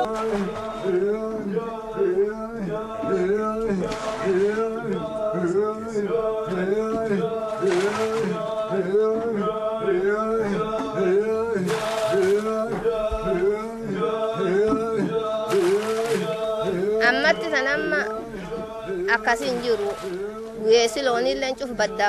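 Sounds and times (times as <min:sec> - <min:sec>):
men chanting work song: 0:00.0 - 0:22.0.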